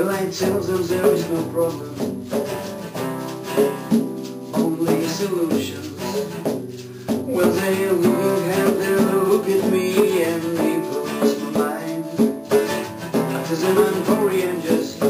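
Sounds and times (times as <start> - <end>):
acoustic guitar strumming: 0.0 - 15.0
hand drum: 0.0 - 15.0
rattling shaker: 0.0 - 15.0.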